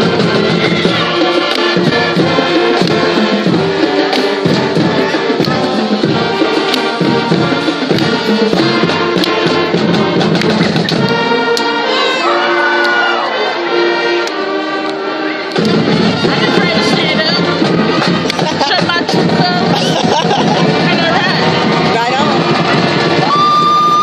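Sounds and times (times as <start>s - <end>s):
drum strokes: 0.0s - 11.8s, 12.8s - 24.0s
brass holding long chords: 0.0s - 19.3s
marching band playing: 0.0s - 24.0s.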